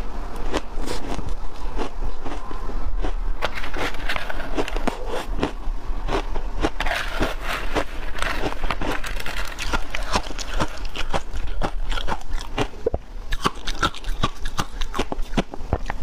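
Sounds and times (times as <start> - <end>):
ice crunching while chewed: 0.4 - 16.0.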